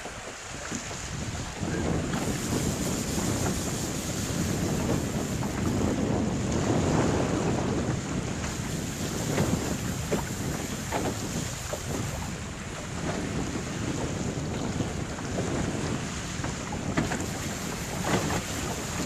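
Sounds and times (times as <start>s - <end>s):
waves on choppy water: 0.0s - 19.0s
wind buffeting microphone: 0.0s - 19.0s.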